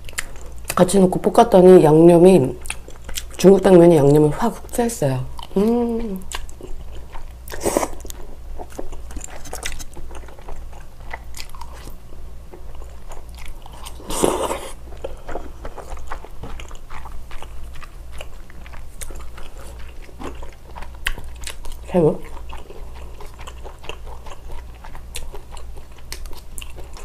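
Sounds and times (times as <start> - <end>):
close chewing with mouth clicks: 0.0 - 1.4, 2.3 - 27.0.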